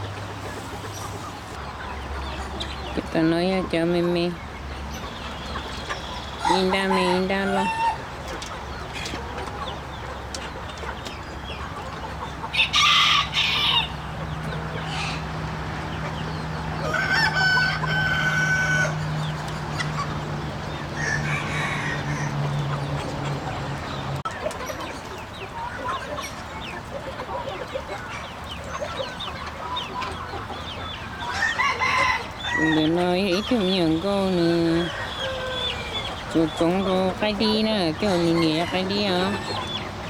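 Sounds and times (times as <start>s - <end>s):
chickens clucking: 0.0s - 40.0s
roosters crowing: 4.7s - 26.3s, 27.2s - 40.0s.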